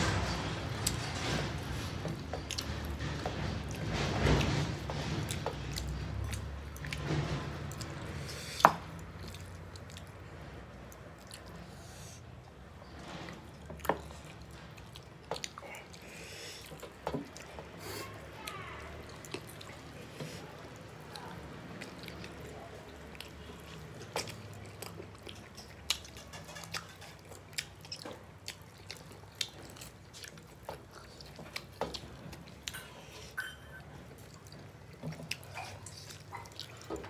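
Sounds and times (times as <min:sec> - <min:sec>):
people chewing and squishing food: 0:00.0 - 0:37.0.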